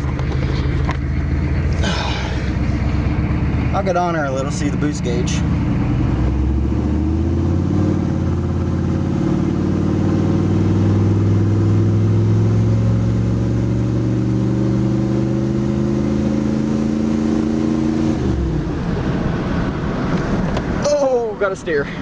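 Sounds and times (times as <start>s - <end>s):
turbo diesel truck engine revving: 0.0s - 21.1s.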